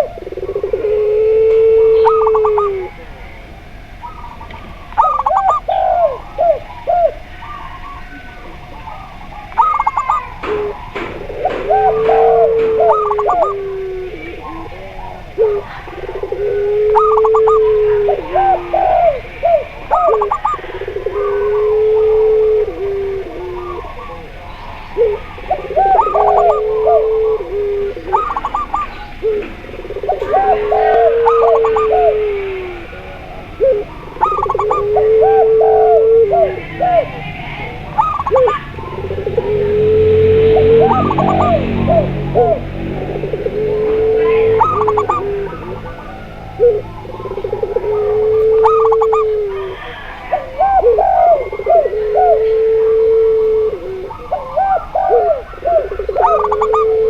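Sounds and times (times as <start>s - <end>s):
high stuttering dove coos: 0.0s - 3.1s, 3.9s - 57.0s
long low dove coos: 0.0s - 57.0s.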